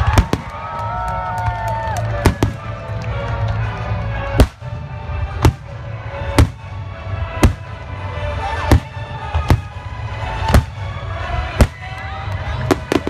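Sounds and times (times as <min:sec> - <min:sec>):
music playing: 0:00.0 - 0:13.0.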